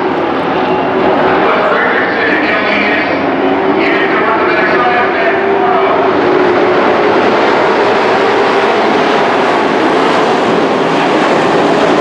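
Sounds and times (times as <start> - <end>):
race truck engines roaring: 0.0 - 12.0.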